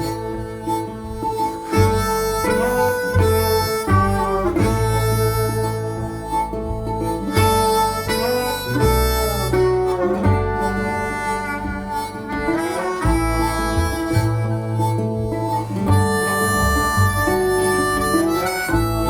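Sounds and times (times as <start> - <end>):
guitar: 0.0 - 19.0
harmonica with bending notes: 0.0 - 19.0
steady bass line: 0.0 - 19.0.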